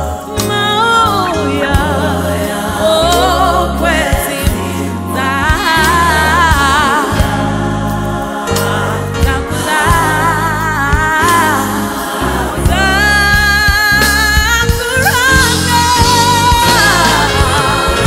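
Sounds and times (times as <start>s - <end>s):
woman singing with vibrato: 0.0s - 7.5s, 8.7s - 18.0s
band with keyboards drums guitars: 0.0s - 18.0s
voices singing harmony: 0.0s - 18.0s.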